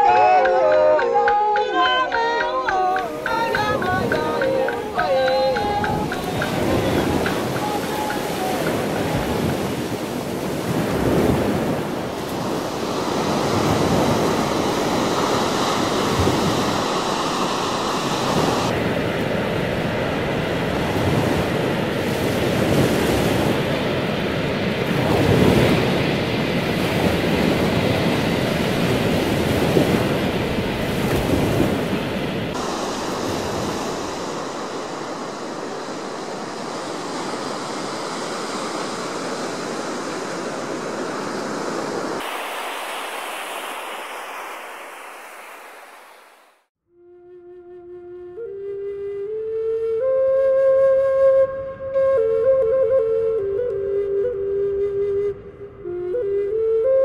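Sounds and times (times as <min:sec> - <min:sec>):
wind on microphone: 0:00.0 - 0:46.5
ocean surf washing in: 0:00.0 - 0:46.7.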